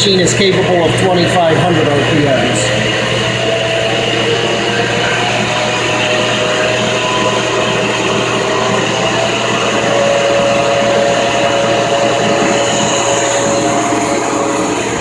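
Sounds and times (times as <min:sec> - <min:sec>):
lathe mechanical whine: 0:00.0 - 0:15.0
low hum: 0:00.0 - 0:15.0.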